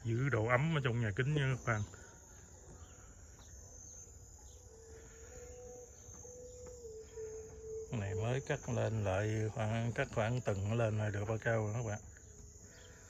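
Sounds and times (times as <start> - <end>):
faint steady hum: 0.0 - 13.0
high-pitched insect chirring: 0.0 - 13.0.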